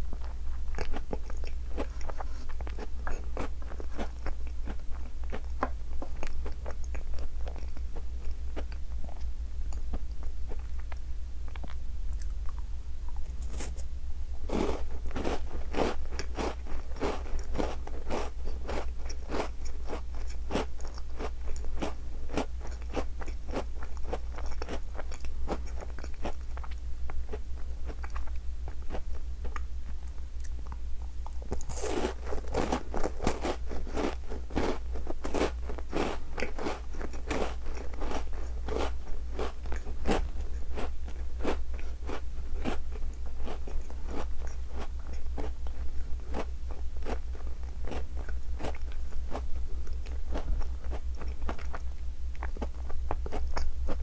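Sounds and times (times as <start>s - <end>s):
steady low hum: 0.0s - 54.0s
biscuit crunching and chewing: 0.1s - 13.9s, 14.5s - 54.0s.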